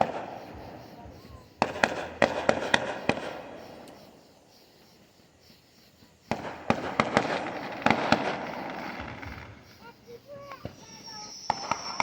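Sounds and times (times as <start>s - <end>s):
firework sharp cracks: 0.0s - 4.2s, 6.3s - 12.0s.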